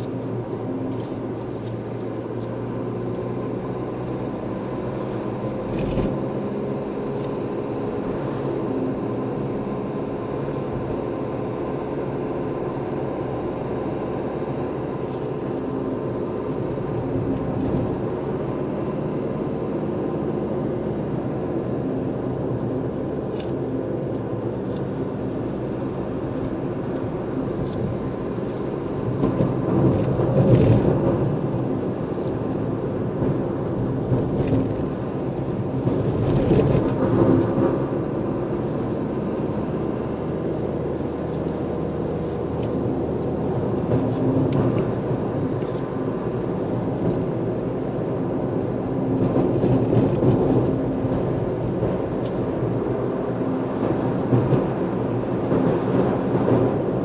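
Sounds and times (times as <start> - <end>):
car engine hum: 0.0 - 57.0.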